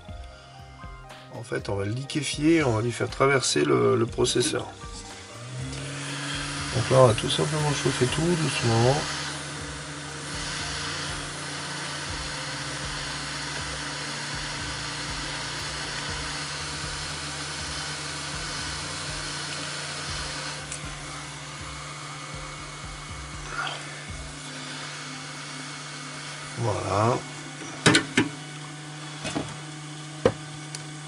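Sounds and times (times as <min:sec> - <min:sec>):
hot air gun blowing: 0:04.3 - 0:30.4.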